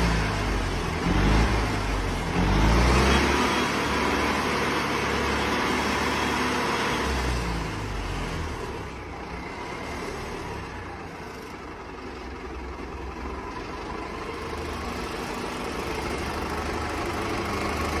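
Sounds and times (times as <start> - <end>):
bulldozer engine running: 0.0 - 18.0.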